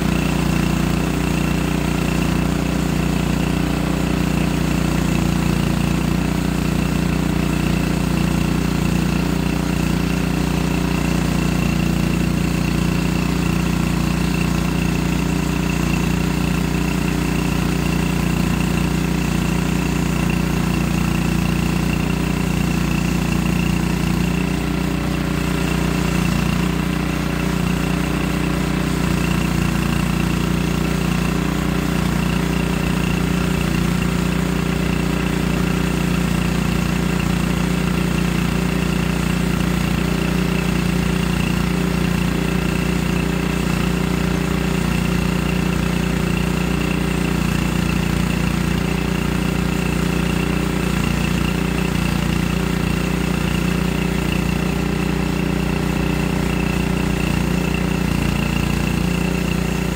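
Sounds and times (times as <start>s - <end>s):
small gasoline engine running: 0.0s - 59.9s.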